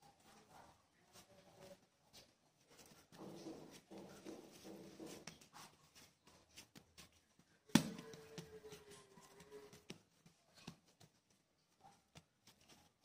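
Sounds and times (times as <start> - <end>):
hands kneading bread dough: 0.0 - 13.0.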